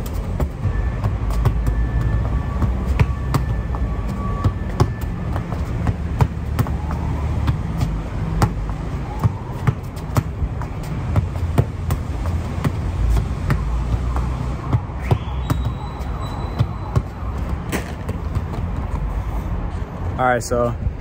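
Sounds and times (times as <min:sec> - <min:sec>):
football being kicked: 0:00.0 - 0:19.0
low rumble of city traffic: 0:00.0 - 0:21.0.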